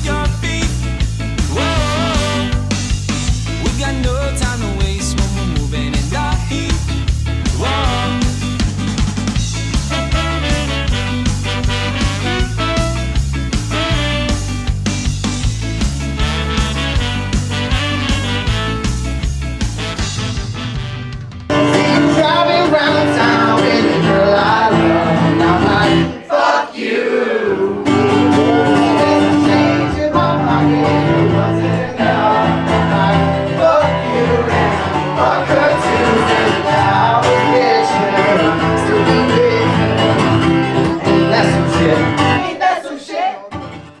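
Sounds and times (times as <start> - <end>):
loud live band playing: 0.0 - 26.2, 27.9 - 42.4.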